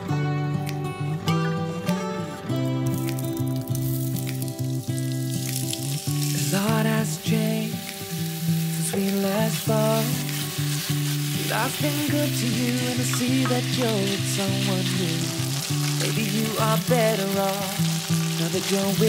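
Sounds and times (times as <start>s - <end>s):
background music: 0.0s - 19.0s
chicken sizzling in oil: 3.0s - 19.0s.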